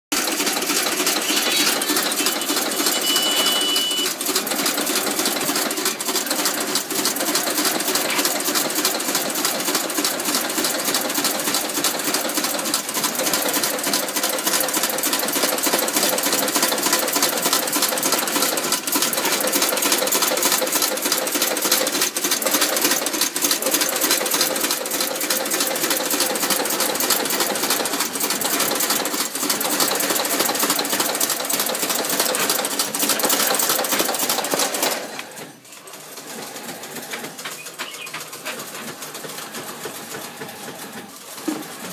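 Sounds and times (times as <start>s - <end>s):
machine rapid clicking clatter: 0.1s - 41.9s.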